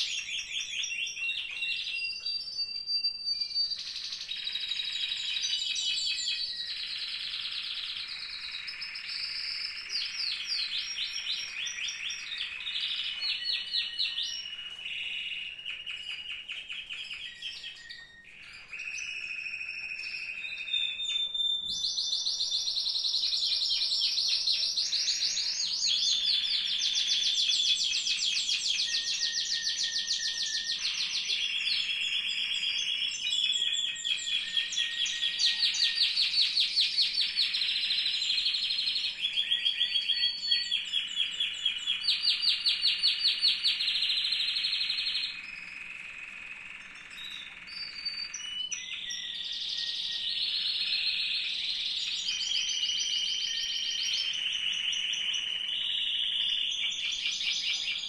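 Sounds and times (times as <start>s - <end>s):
canaries singing trills: 0.0s - 58.0s.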